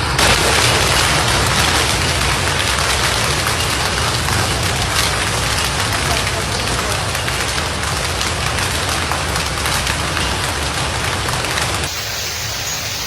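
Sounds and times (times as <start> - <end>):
hailstones on hard surfaces: 0.0 - 13.0.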